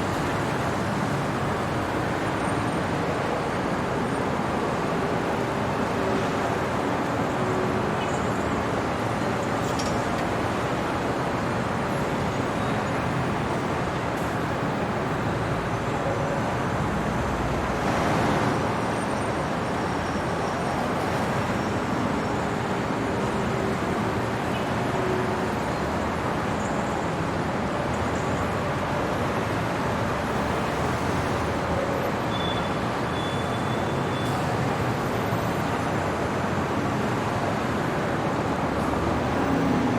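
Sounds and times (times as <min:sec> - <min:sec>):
city traffic noise: 0:00.0 - 0:39.9.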